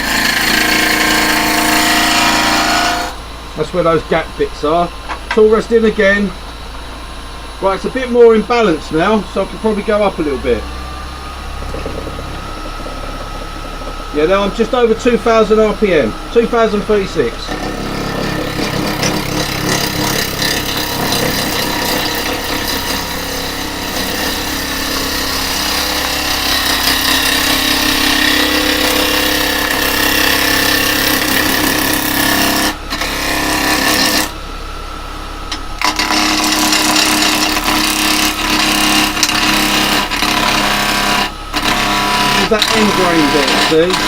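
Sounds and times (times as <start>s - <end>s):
chisel scraping spinning wood: 0.0s - 3.2s, 7.6s - 34.4s, 35.5s - 44.0s
lathe motor hum: 0.0s - 44.0s.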